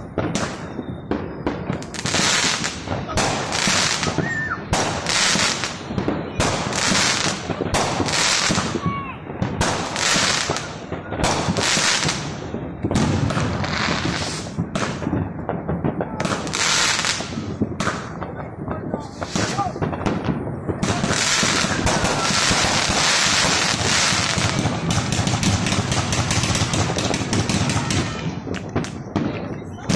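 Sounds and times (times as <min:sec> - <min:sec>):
fireworks bursting: 0:00.0 - 0:29.9
fireworks crackling: 0:00.0 - 0:29.9.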